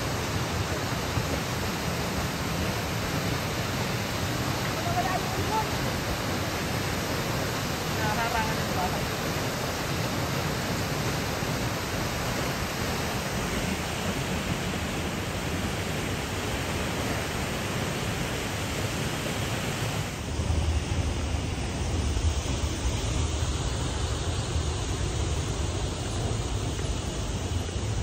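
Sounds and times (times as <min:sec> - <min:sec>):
river rushing over dam: 0:00.0 - 0:28.0.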